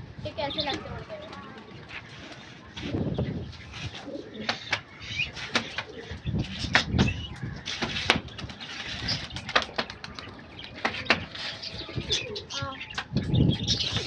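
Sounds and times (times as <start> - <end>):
wings flapping: 0.3 - 13.2
pigeons cooing: 0.3 - 14.0.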